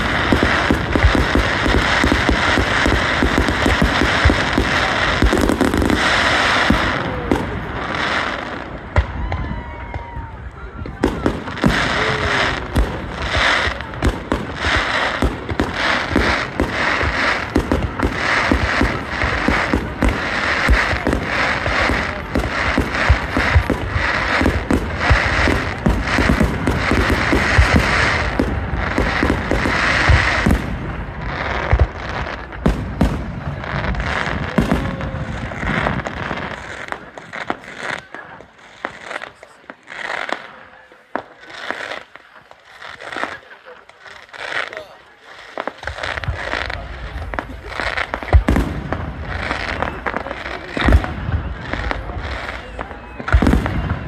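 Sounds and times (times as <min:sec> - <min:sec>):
fireworks bursts and crackle: 0:00.0 - 0:54.0.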